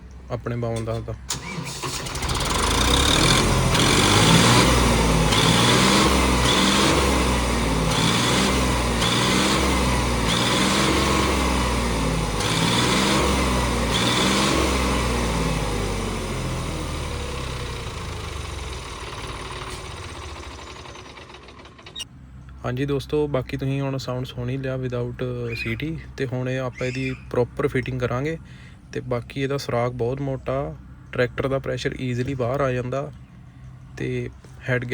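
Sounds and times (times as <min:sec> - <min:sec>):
diesel tractor engine revving: 0:00.1 - 0:34.9.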